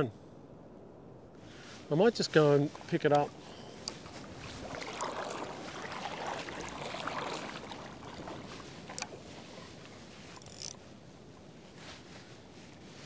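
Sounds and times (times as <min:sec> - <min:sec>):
legs wading through shallow water: 0:01.4 - 0:13.0.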